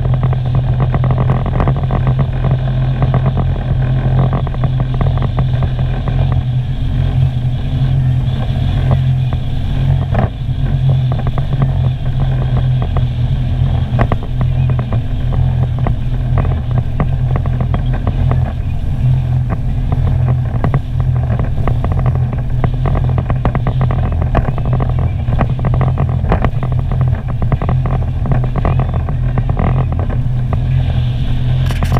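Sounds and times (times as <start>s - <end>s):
watercraft engine running: 0.0s - 31.9s.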